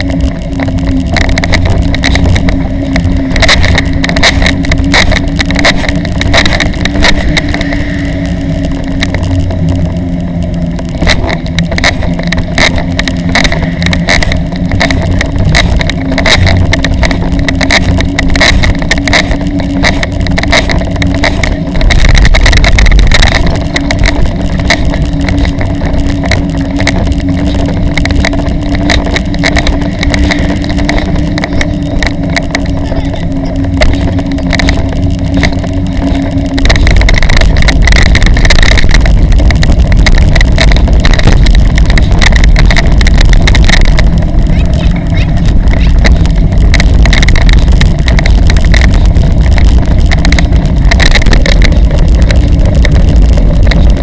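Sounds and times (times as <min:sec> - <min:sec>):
steady hum: 0:00.0 - 0:54.0
trailer rattling: 0:00.0 - 0:54.0
wheels rumbling on road: 0:00.0 - 0:54.0
wind on microphone: 0:00.0 - 0:54.0.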